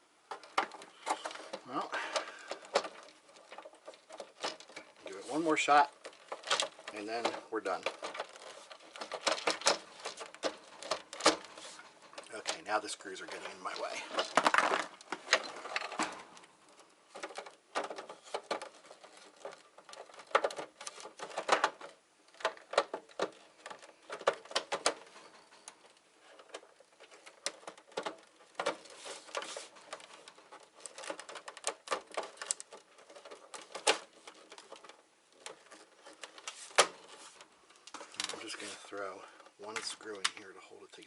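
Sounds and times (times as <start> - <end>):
plastic parts and screws clicking: 0.2 - 41.0.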